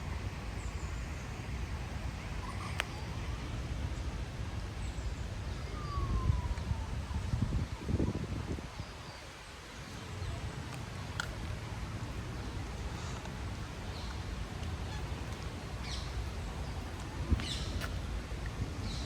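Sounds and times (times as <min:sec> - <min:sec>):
low city rumble: 0:00.0 - 0:19.0.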